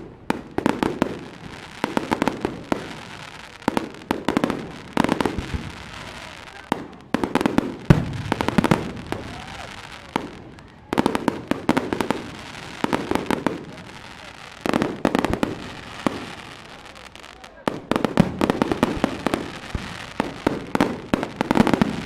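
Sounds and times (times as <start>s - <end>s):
fireworks cracks and bangs: 0.0s - 22.0s.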